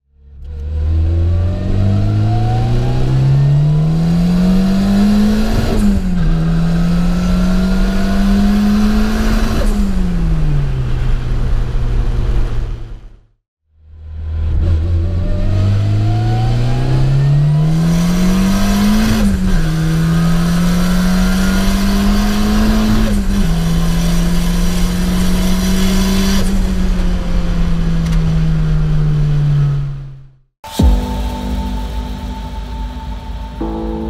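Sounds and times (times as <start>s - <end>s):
car engine accelerating: 0.2s - 13.1s, 13.9s - 34.0s.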